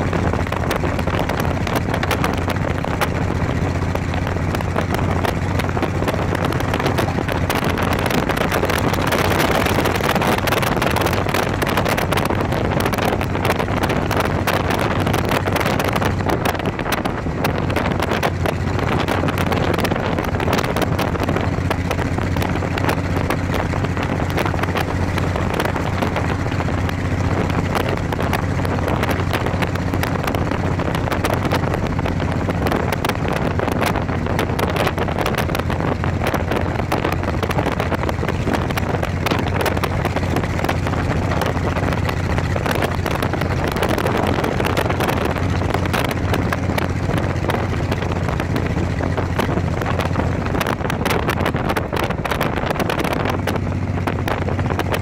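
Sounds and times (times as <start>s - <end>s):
motorcycle engine running: 0.0s - 55.0s
road noise: 0.0s - 55.0s
wind buffeting microphone: 0.0s - 55.0s.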